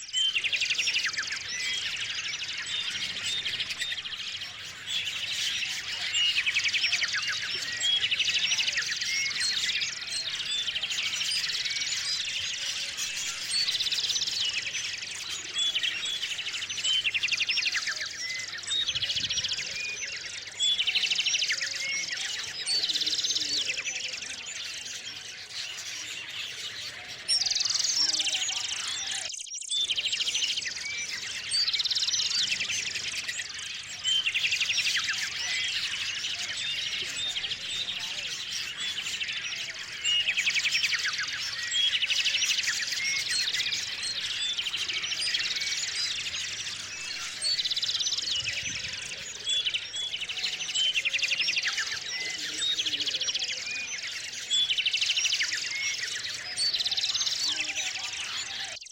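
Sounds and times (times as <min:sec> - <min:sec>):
bird trilling song: 0:00.0 - 0:58.9
birds chirping: 0:00.0 - 0:58.9.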